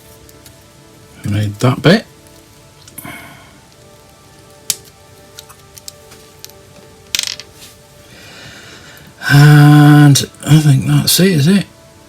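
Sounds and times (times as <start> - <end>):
quiet background music: 0.0 - 12.0.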